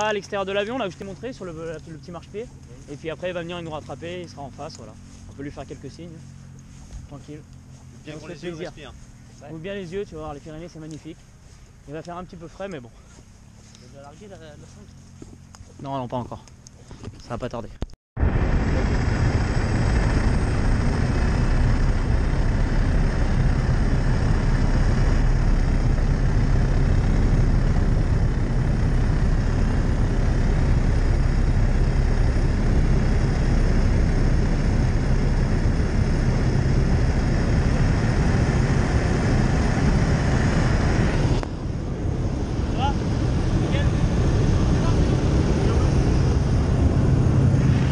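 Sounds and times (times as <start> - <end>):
propeller plane engine running: 0.0 - 47.9.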